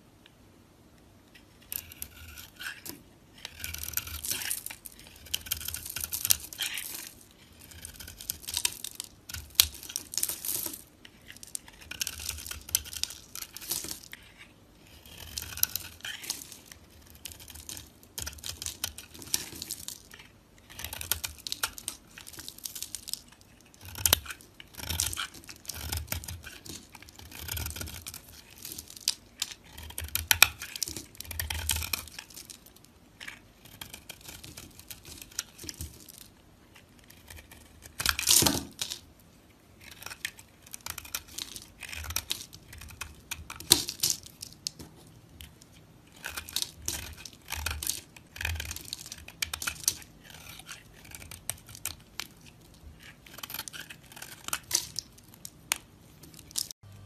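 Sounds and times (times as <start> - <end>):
knife scraping through soap: 1.3 - 36.1, 36.7 - 38.3, 39.8 - 43.6, 46.1 - 56.8
soap chunks crunching: 3.4 - 39.0, 39.8 - 56.8.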